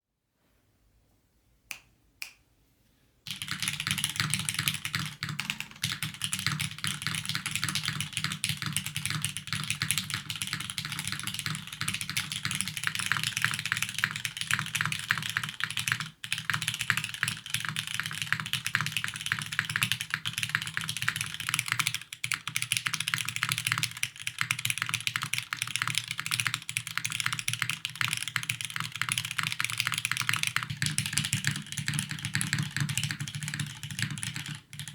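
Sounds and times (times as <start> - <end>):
fast mechanical keyboard typing: 3.3 - 34.9.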